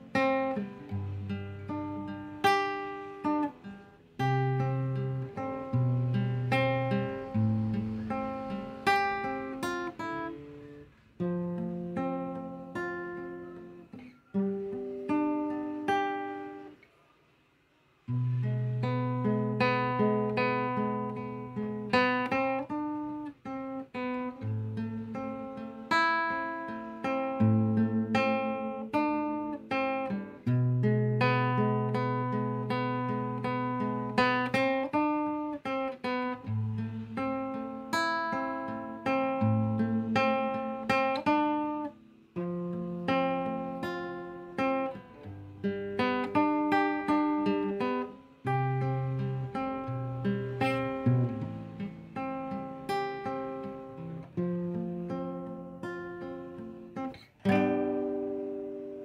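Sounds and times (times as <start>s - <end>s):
acoustic guitar: 0.0s - 59.0s.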